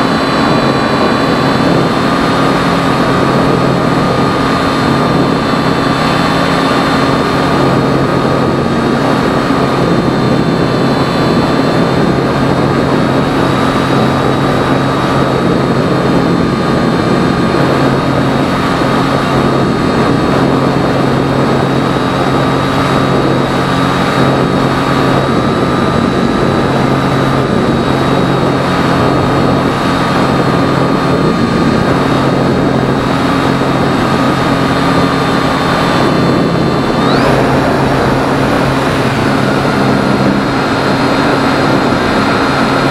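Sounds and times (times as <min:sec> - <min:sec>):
electric motor and propeller whine: 0:00.0 - 0:42.9
rushing air noise: 0:00.0 - 0:42.9.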